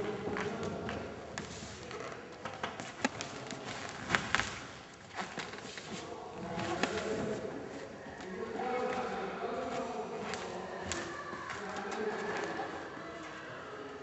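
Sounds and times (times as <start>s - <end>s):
low background murmur: 0.0s - 14.0s.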